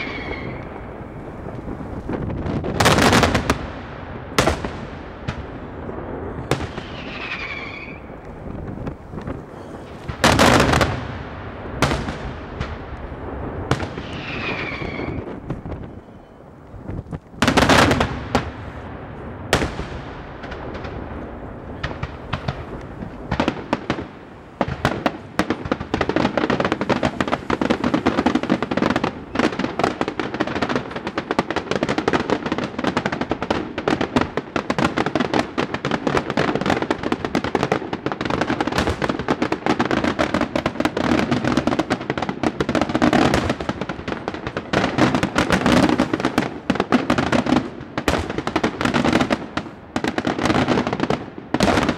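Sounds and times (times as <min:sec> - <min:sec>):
fireworks loud bangs: 0:00.0 - 0:51.9
fireworks rapid crackling: 0:00.0 - 0:51.9.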